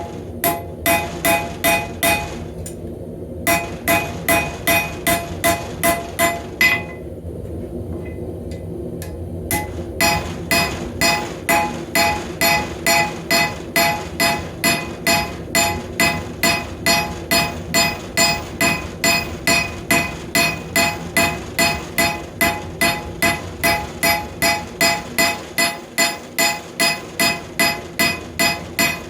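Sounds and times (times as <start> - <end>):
hammer striking steel on anvil: 0.0 - 2.4, 3.5 - 7.0, 9.5 - 29.0.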